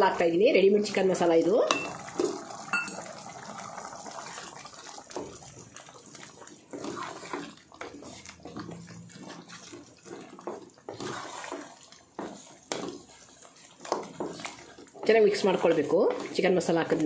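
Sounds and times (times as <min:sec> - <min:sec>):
spatula scraping pot: 0:01.7 - 0:17.0
thick gravy sloshing and squelching: 0:02.0 - 0:17.0.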